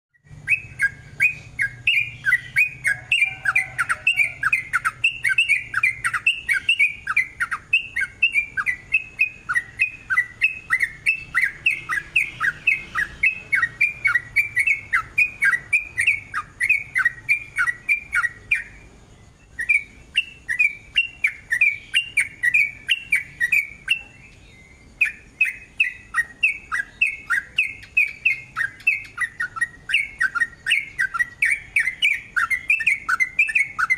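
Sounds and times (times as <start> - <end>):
bird chirping song: 0.1 - 33.9.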